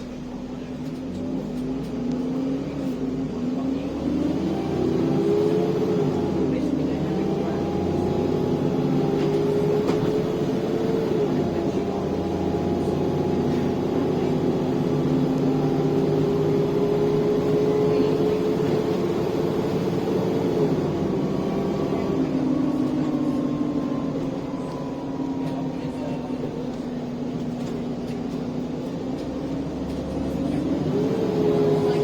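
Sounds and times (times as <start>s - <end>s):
bus engine accelerating: 0.0s - 32.0s.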